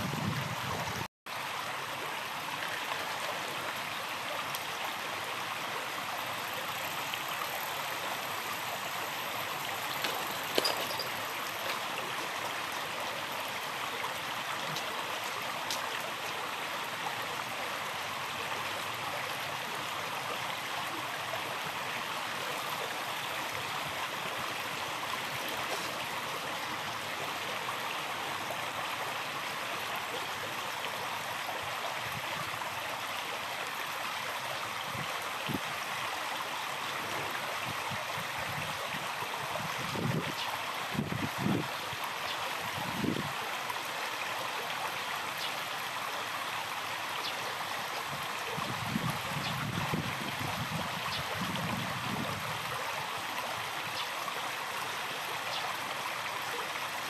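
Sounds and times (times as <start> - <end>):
river water babbling over stones: 0.6 - 57.0.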